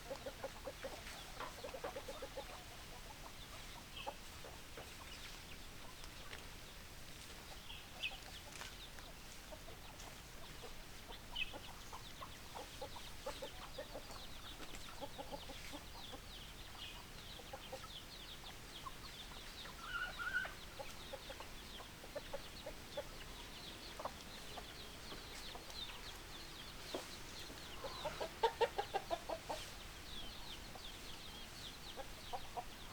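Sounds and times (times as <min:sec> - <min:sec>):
hens clucking: 0:00.0 - 0:06.4, 0:07.5 - 0:32.9.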